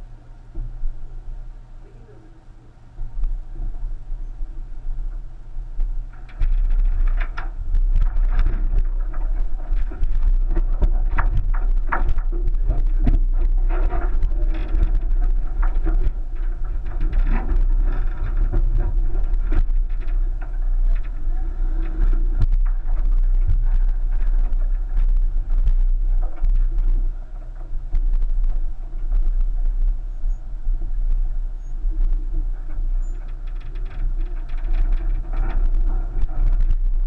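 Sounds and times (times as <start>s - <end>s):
car engine rumbling: 0.0s - 37.0s
tyres crunching over stones: 5.9s - 37.0s.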